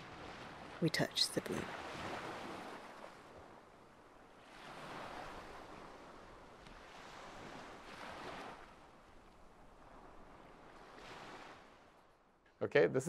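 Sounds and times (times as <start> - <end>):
faint ocean waves breaking: 0.0 - 13.0.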